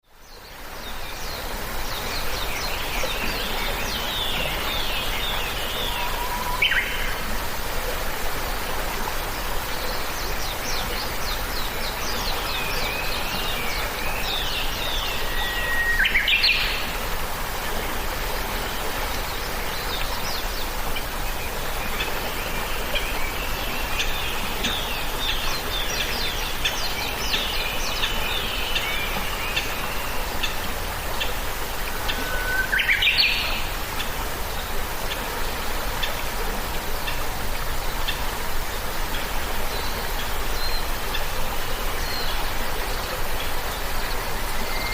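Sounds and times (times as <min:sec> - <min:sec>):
steady background hiss: 0:00.1 - 0:44.9.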